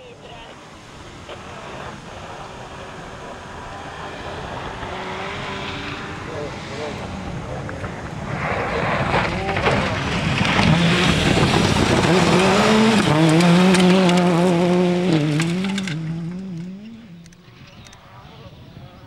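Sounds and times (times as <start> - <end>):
rally car engine passing: 0.0 - 19.0.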